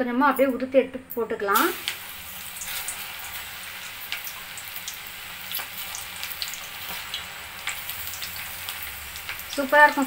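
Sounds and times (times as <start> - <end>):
hot oil sizzling and popping: 0.3 - 10.0.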